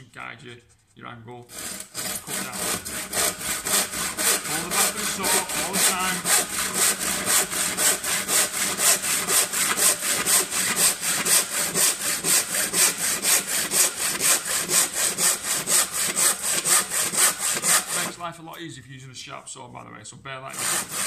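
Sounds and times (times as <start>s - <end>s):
hand saw cutting wood: 1.4s - 18.4s, 20.5s - 21.0s.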